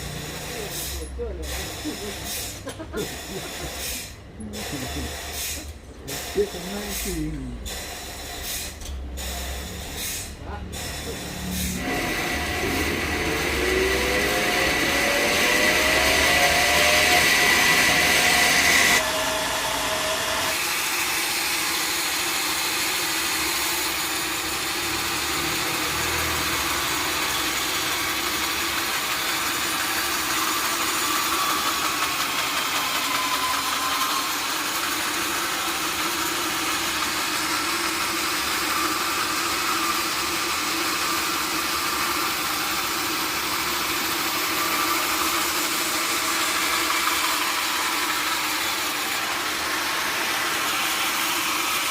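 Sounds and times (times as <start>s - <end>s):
high steady machine whine: 0.0s - 51.9s
sawmill machinery running: 0.0s - 51.9s.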